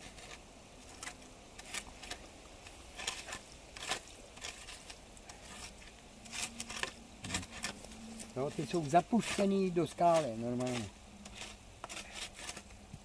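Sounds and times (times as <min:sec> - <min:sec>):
stick scraping through mud and stones: 0:00.0 - 0:12.8.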